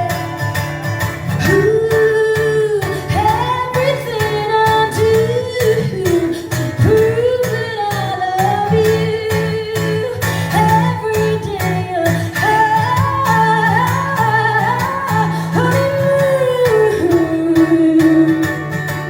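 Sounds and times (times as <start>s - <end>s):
guitar: 0.0s - 19.0s
woman singing: 0.0s - 19.0s.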